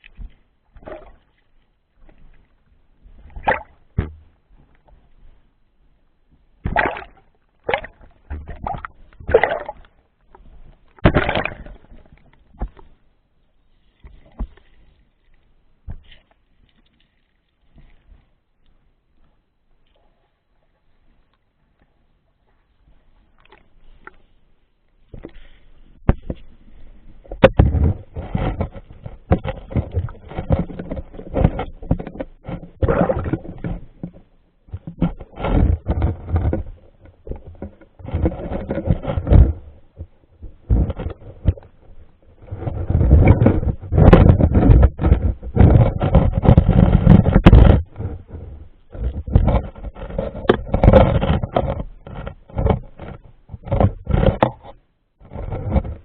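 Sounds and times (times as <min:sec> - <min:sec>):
water splashing and sloshing: 0:00.0 - 0:56.0.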